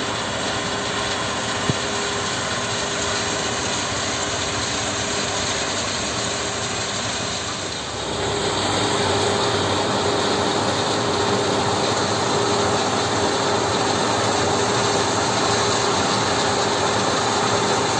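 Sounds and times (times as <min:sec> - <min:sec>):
excavator diesel engine: 0:00.0 - 0:17.9.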